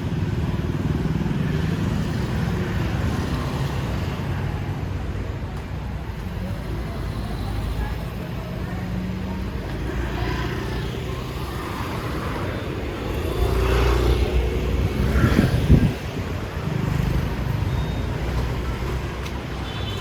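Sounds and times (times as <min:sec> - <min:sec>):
street traffic rumbling: 0:00.0 - 0:20.0.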